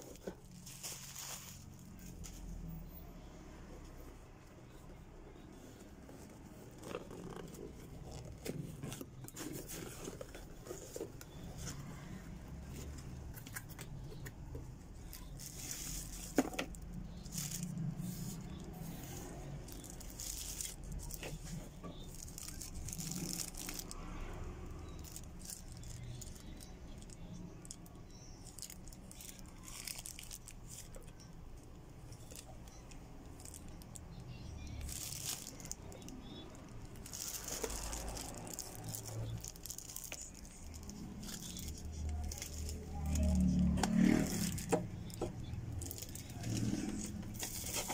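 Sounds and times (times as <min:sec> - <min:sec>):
wrapped parts rattling and clicking: 0:00.0 - 0:02.4, 0:06.2 - 0:11.9, 0:12.7 - 0:34.1, 0:34.7 - 0:47.9
plastic bags crinkling: 0:00.0 - 0:02.7, 0:05.6 - 0:14.3, 0:15.0 - 0:47.9.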